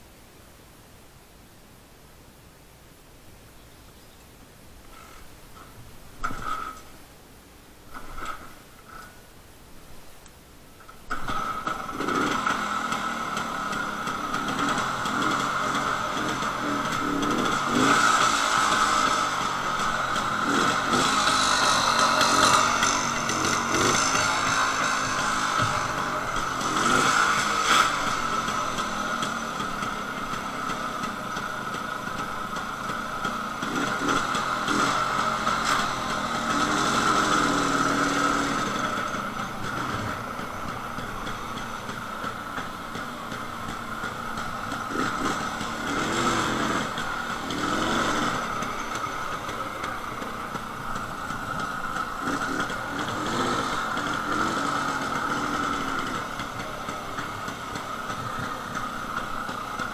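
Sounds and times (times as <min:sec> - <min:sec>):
two-stroke motorcycle engine revving: 0:11.1 - 0:59.9.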